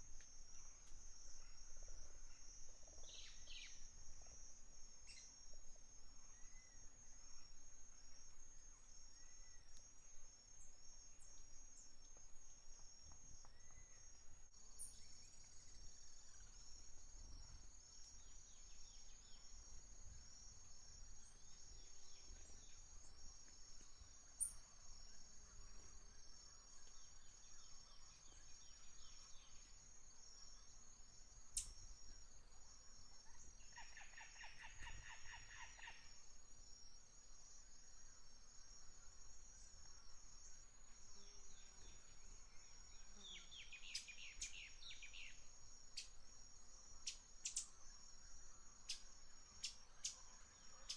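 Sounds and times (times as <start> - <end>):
insect chirring: 0.0 - 50.9.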